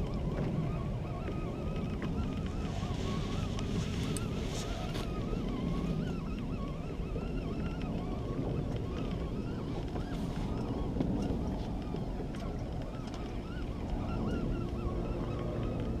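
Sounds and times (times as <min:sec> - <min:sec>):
faint wavering high whine: 0:00.0 - 0:16.0
sea noise: 0:00.0 - 0:16.0
wind on microphone: 0:00.0 - 0:16.0.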